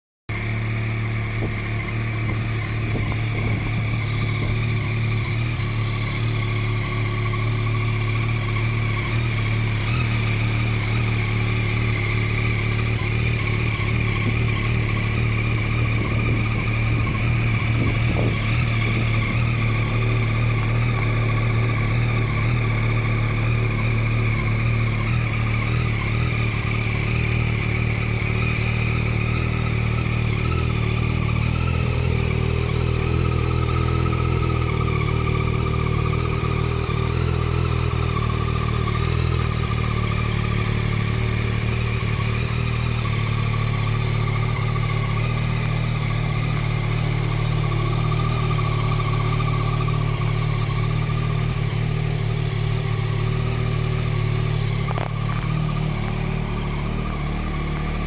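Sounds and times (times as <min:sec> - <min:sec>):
motorcycle engine idling: 0:00.3 - 0:58.0.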